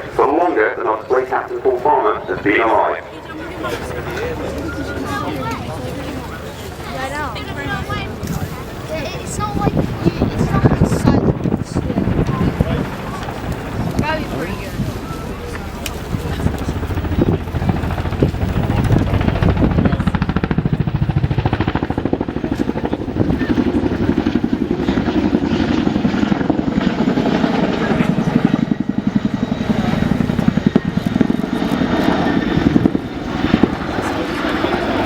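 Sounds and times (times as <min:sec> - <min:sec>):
helicopter rotors beating: 0:00.0 - 0:35.0
turbine engine whine: 0:00.0 - 0:35.0.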